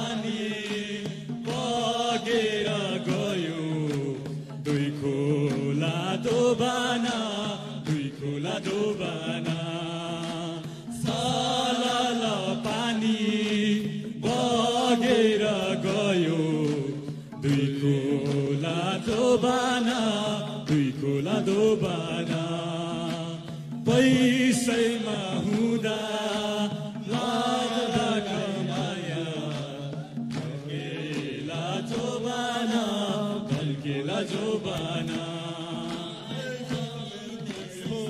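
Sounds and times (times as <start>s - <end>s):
men singing a carol: 0.0s - 38.0s.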